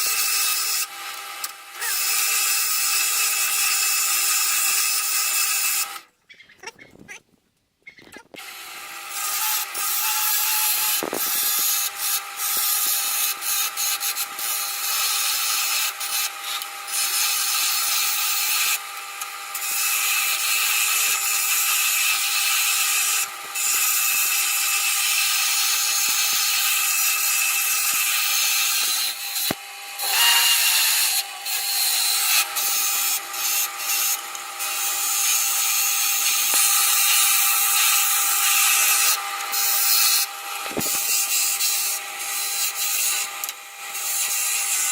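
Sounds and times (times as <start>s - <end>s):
gouge scraping wood on lathe: 8.4s - 44.9s
lathe motor whine: 8.4s - 44.9s.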